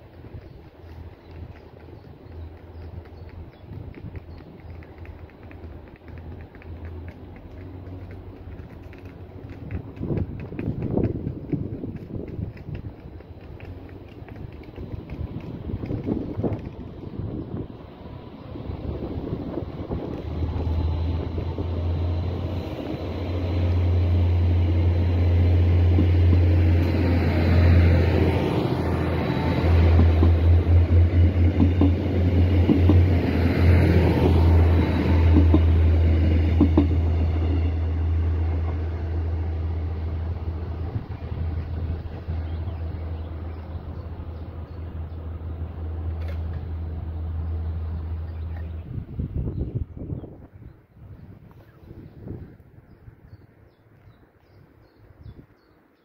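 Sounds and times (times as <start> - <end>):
diesel train engine drone: 0.0 - 50.6
low pulsing of train: 0.0 - 56.0.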